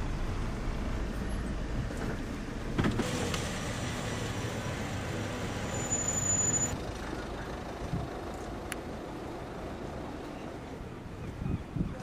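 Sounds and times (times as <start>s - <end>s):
ferry engine hum: 0.0s - 11.2s.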